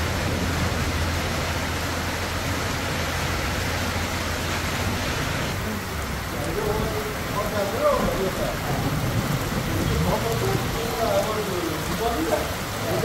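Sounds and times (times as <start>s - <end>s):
heavy rain pouring: 0.0s - 13.0s
runoff water rushing: 0.0s - 13.0s.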